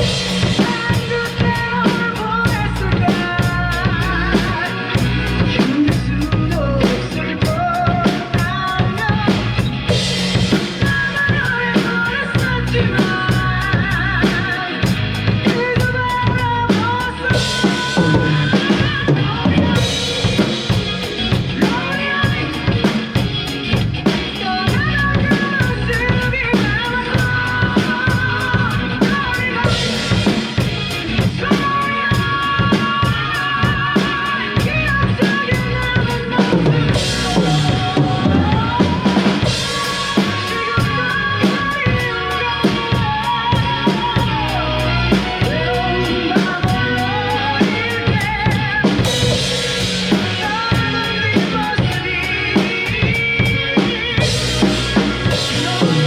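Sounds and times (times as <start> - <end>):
drum kit playing: 0.0 - 56.0
recorded song with singing: 0.0 - 56.0.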